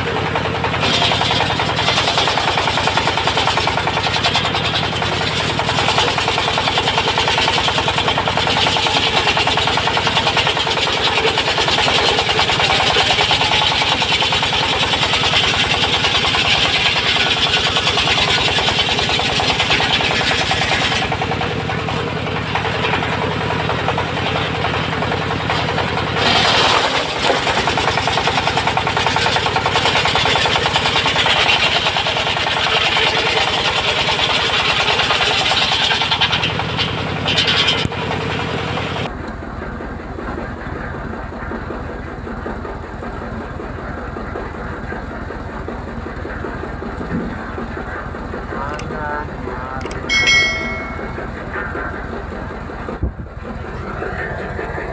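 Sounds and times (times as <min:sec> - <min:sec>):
sawmill engine beat: 0:00.0 - 0:39.1, 0:46.0 - 0:54.9.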